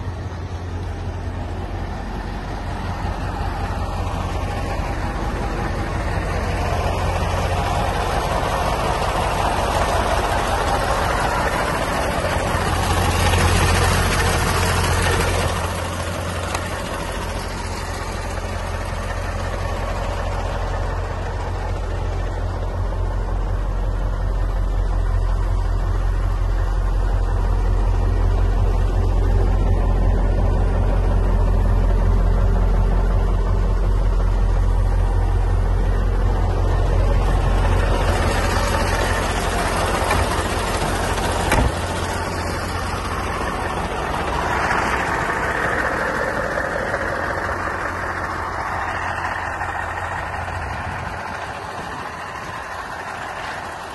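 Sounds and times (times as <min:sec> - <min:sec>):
diesel truck engine idling: 0:00.0 - 0:53.9.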